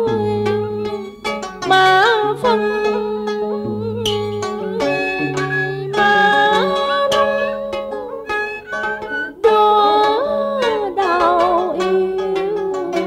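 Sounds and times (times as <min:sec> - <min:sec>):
plucked string melody: 0:00.0 - 0:13.0
sliding lead melody line: 0:00.0 - 0:13.0.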